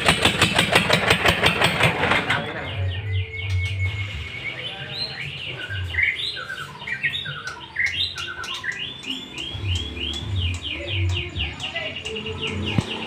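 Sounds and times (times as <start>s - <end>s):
bird chirping: 1.5s - 13.0s.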